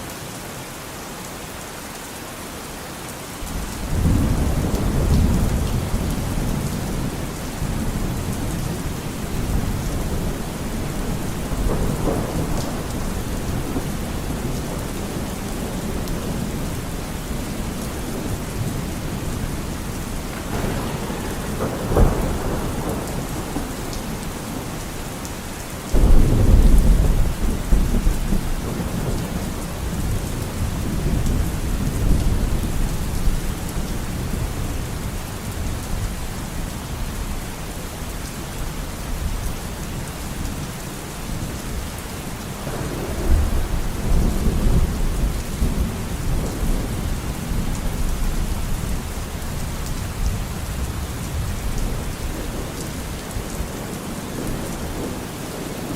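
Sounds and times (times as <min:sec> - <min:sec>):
heavy rain falling: 0:00.0 - 0:55.9
thunder rumbling: 0:03.5 - 0:37.3, 0:41.4 - 0:55.9.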